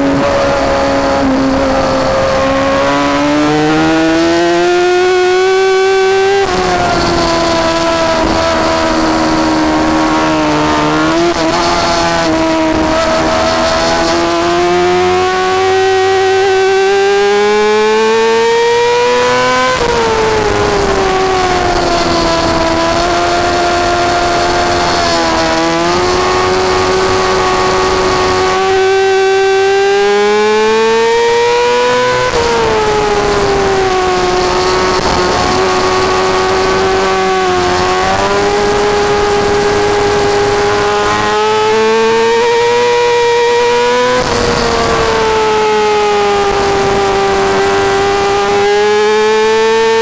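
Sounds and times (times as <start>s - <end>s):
motorcycle engine at high revs: 0.0s - 50.0s.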